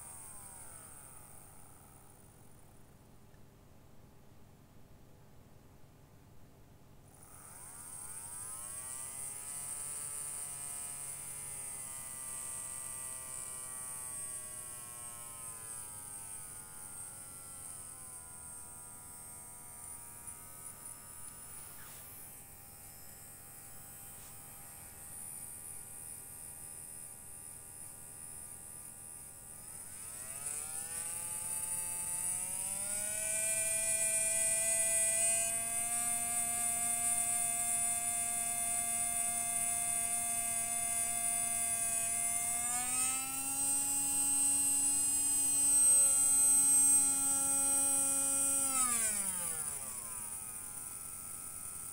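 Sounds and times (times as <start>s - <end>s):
small electric motor whining: 0.0s - 2.8s, 7.1s - 51.9s.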